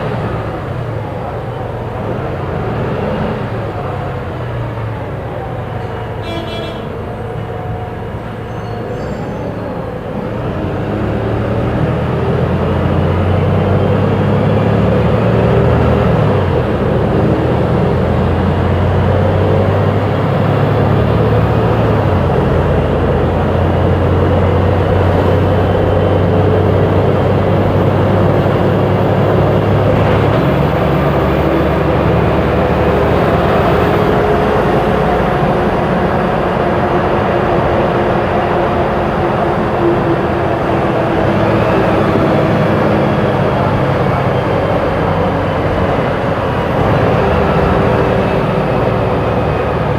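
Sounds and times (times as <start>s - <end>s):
bus engine running: 0.0s - 49.9s.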